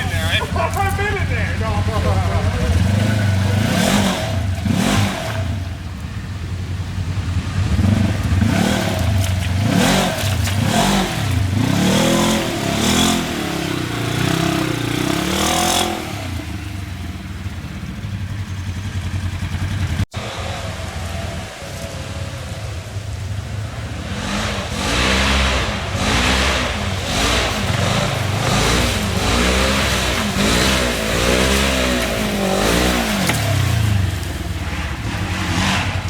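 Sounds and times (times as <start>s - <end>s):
off-road vehicle engine revving: 0.0s - 36.0s.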